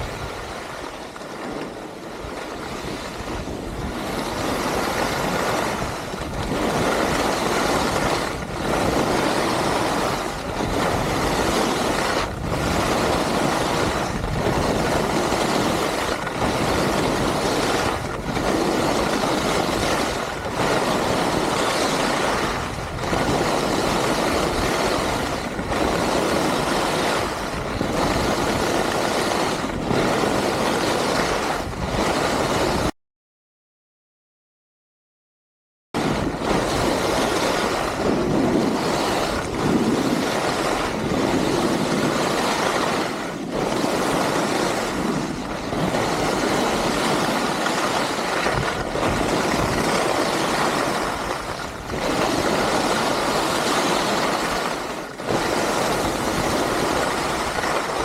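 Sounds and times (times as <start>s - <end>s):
ski edges scraping on snow: 0.5s - 31.4s, 36.5s - 58.0s.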